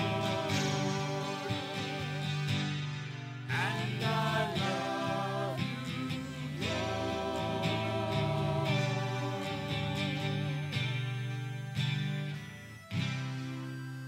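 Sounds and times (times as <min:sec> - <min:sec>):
acoustic guitars: 0:00.0 - 0:14.0
voices singing slow song: 0:00.0 - 0:14.0.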